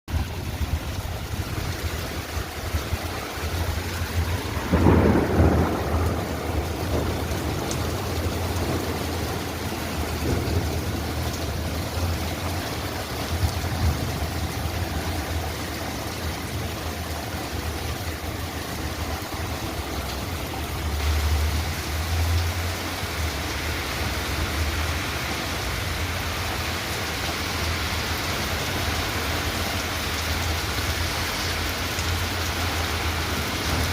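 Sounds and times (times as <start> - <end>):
thunder rumbling: 0.1 - 23.3, 26.0 - 33.9
heavy rain pouring: 0.1 - 33.9.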